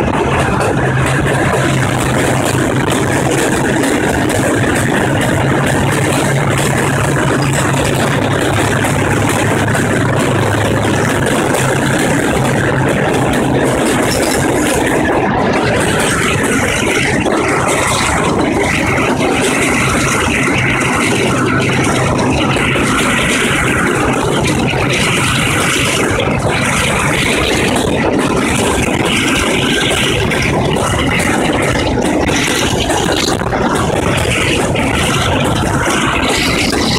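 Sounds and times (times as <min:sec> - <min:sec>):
low hum: 0:00.0 - 0:36.9
train carriage rumbling and rattling: 0:00.0 - 0:36.9.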